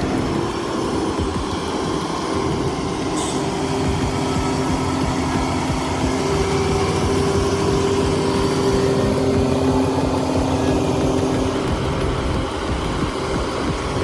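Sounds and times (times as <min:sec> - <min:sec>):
heavy vehicle engine humming: 0:00.0 - 0:14.0.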